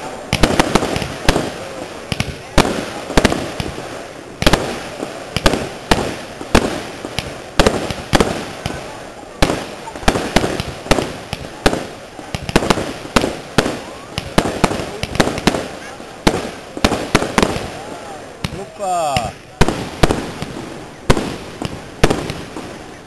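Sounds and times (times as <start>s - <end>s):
crackling hiss of spark trails: 0.0s - 23.0s
fireworks banging: 0.0s - 23.0s.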